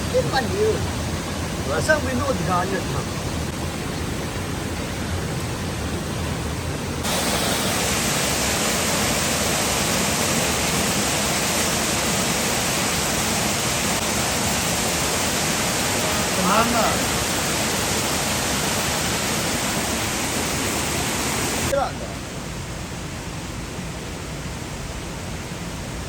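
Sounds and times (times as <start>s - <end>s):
fast-flowing river rushing: 0.0s - 23.4s.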